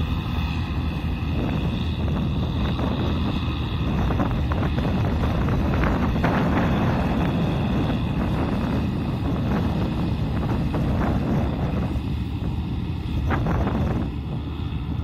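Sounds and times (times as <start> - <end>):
tractor diesel engine under load: 0.0 - 15.0
wind buffeting microphone: 0.0 - 15.0.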